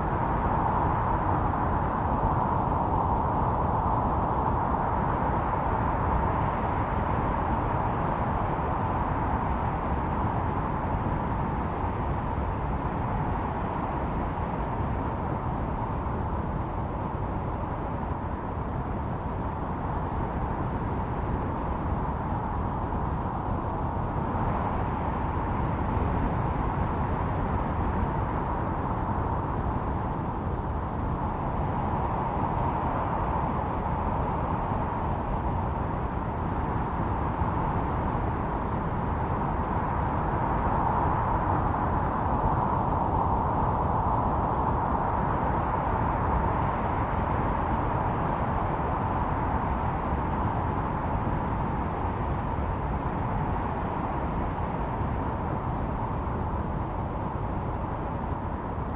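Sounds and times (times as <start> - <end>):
howling blizzard wind: 0.0 - 58.9.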